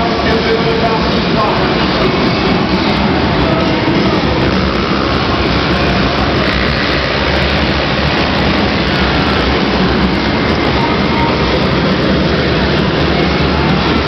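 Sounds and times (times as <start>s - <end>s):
racing atv engines: 0.0s - 14.0s.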